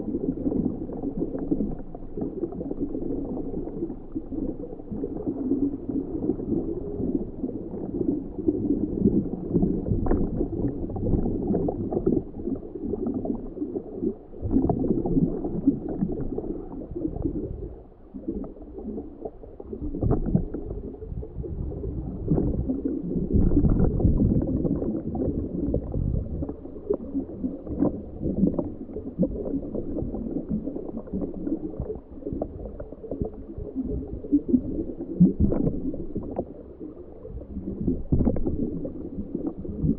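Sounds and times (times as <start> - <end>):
gurgling underwater water noise: 0.0 - 39.9.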